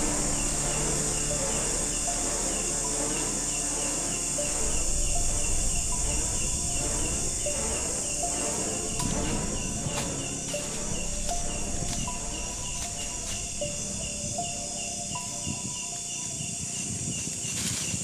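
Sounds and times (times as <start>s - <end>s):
low rumble: 0.0s - 16.8s
chorus of insects: 0.0s - 18.0s
insect chirping: 0.0s - 18.0s.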